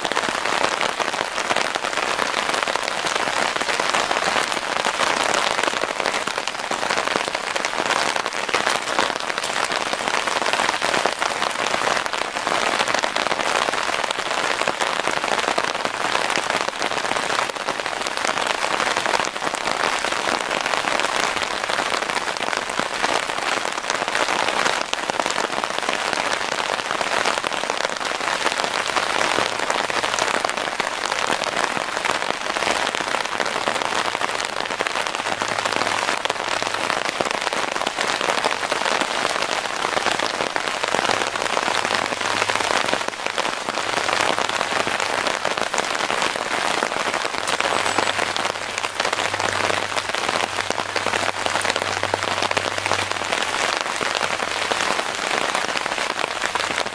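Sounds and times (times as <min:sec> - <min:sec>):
steady rain pattering: 0:00.0 - 0:56.9.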